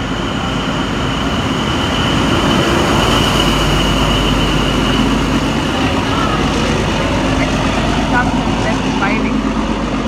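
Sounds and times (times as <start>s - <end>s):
diesel engine rumble: 0.0s - 10.0s
high-pitched whine: 0.0s - 10.0s
train carriages rolling by: 0.0s - 10.0s.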